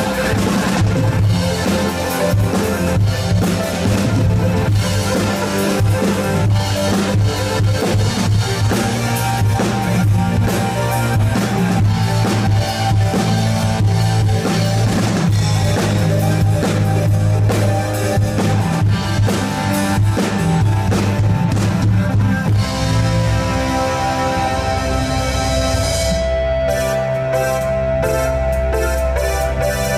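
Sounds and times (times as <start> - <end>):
bass guitar: 0.0 - 29.9
drum kit playing: 0.0 - 29.9
electric guitar: 0.0 - 29.9.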